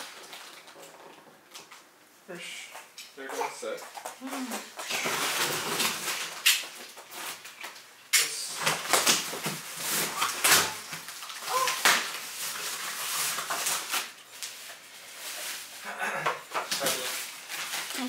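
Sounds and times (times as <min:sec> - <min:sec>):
cardboard and plastic rustling: 0:00.0 - 0:01.9, 0:03.6 - 0:18.0.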